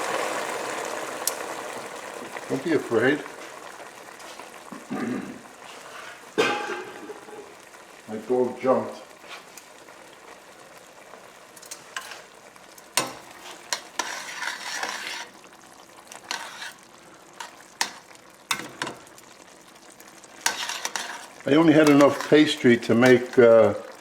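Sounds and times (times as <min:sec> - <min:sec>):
food sizzling: 0:00.0 - 0:24.0.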